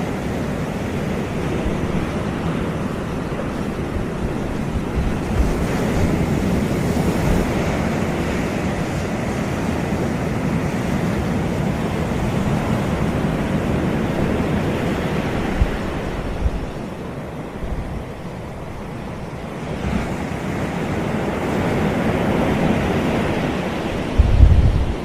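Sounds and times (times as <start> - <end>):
waves breaking on beach: 0.0 - 25.0
wind buffeting microphone: 0.0 - 25.0.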